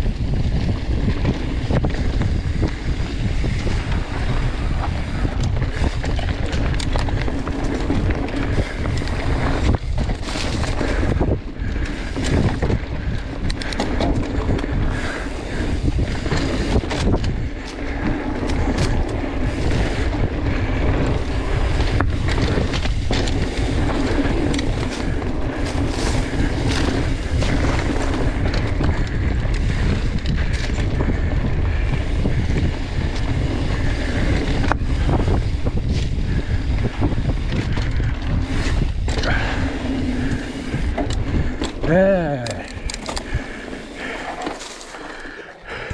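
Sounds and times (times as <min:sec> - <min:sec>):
bike rattling over bumps: 0:00.0 - 0:45.9
bike tyre noise: 0:00.0 - 0:45.9
wind rushing over microphone: 0:00.0 - 0:45.9.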